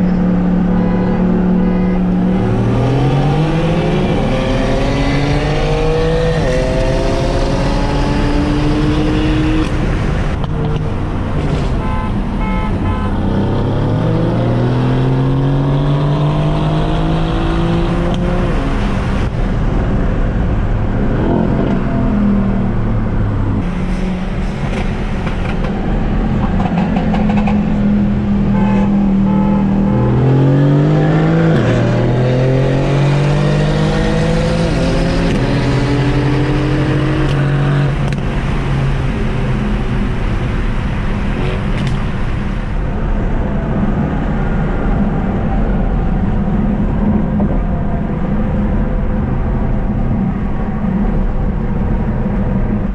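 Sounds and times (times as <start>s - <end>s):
car engine accelerating hard: 0.0s - 11.7s, 13.1s - 52.9s.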